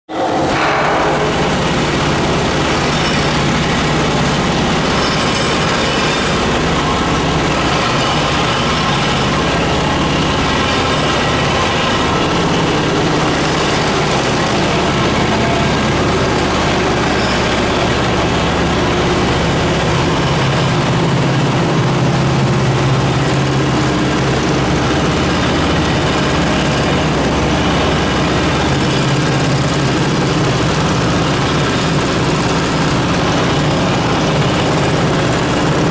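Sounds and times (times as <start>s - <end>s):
quilting machine running: 0.1s - 35.9s
low hum: 0.2s - 35.6s.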